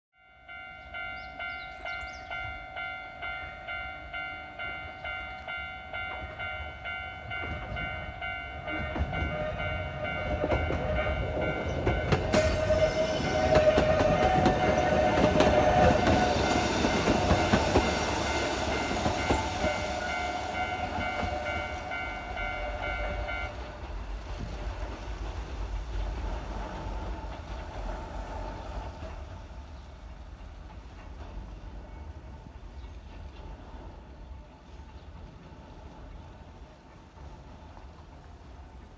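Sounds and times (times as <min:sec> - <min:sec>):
electric train passing: 0:00.2 - 0:38.9
train wheel noise: 0:00.5 - 0:38.9.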